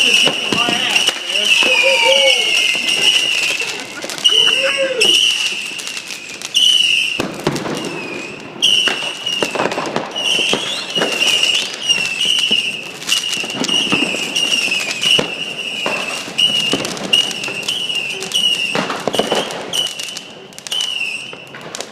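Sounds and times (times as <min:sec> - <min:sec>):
high whistling tone: 0:00.0 - 0:07.2, 0:07.8 - 0:21.4
fireworks bangs and crackles: 0:00.0 - 0:21.9.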